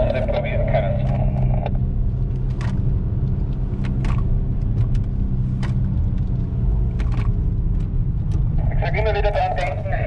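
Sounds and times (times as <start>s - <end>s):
car engine and tyres humming: 0.0s - 10.0s.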